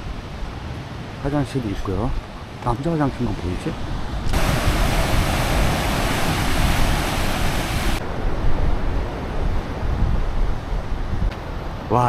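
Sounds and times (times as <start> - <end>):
sea surf rushing: 0.0 - 12.0
wind: 0.0 - 12.0.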